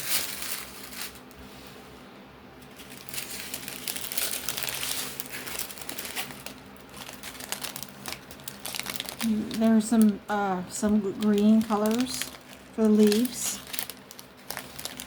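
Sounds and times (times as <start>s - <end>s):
plastic bags crinkling: 0.0s - 1.4s, 2.6s - 15.0s.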